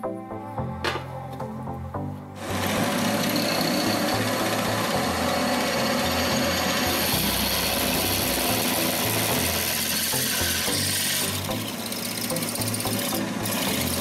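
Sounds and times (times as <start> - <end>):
drill press cutting steel: 2.4 - 14.0.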